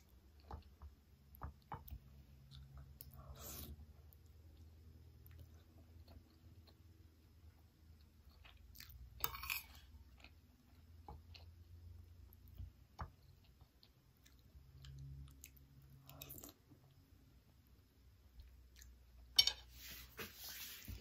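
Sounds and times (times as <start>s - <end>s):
faint chewing: 0.0s - 17.0s, 18.3s - 19.2s.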